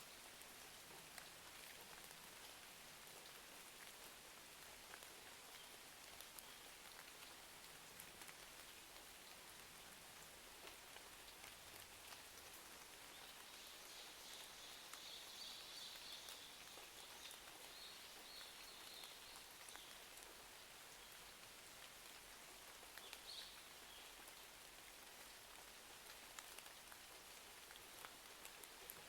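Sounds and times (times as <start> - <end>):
quiet rain with faint ticks: 0.0 - 29.0.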